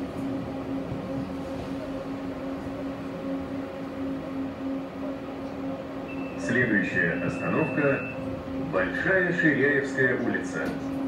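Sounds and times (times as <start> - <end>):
constant humming tone: 0.0 - 11.0
tram car rumble: 0.0 - 11.0.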